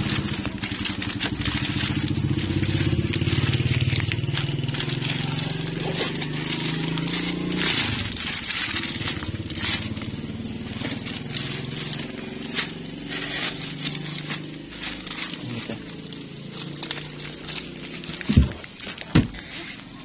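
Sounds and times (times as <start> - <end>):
clicks and rattles: 0.0 - 20.0
small engine running: 0.0 - 20.0.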